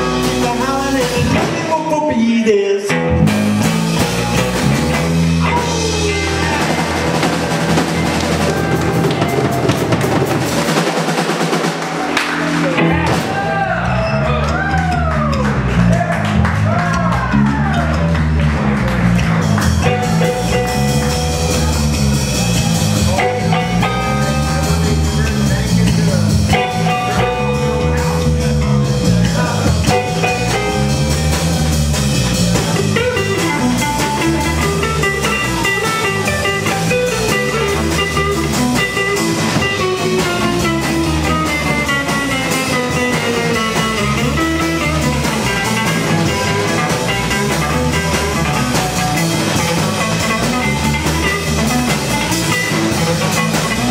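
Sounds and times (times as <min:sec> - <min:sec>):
drum kit: 0:00.0 - 0:53.9
electric bass: 0:00.0 - 0:53.9
electric guitar lead: 0:00.0 - 0:53.9.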